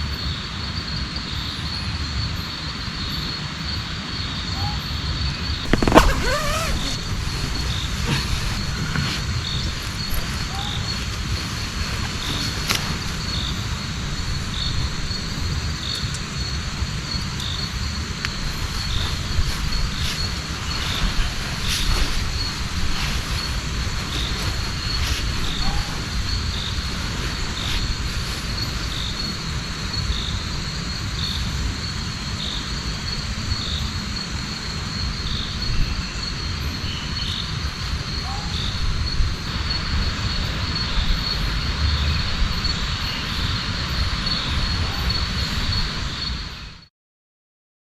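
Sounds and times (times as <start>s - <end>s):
insects trilling: 4.6s - 46.7s
insect chirping: 4.6s - 46.8s.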